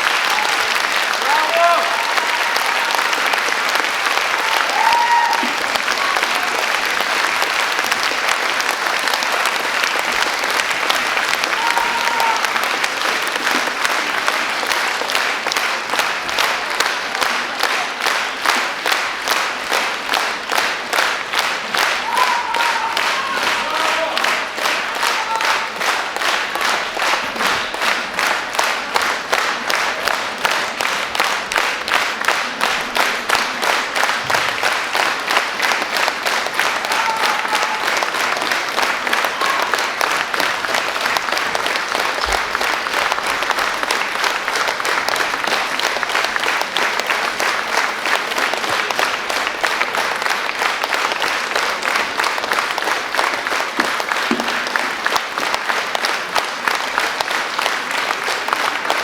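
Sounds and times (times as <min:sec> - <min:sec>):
audience applauding: 0:00.0 - 0:59.0.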